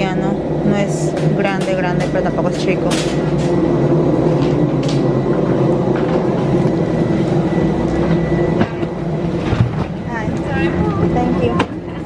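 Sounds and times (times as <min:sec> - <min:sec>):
loud mechanical drone: 0:00.0 - 0:12.0
thin high whine: 0:00.0 - 0:12.0.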